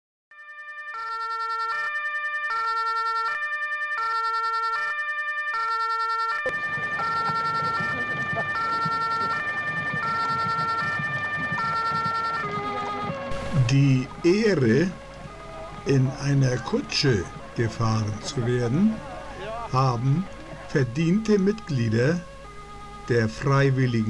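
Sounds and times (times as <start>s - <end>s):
two-tone siren: 0.3s - 24.0s
outdoor street noise: 0.9s - 24.0s.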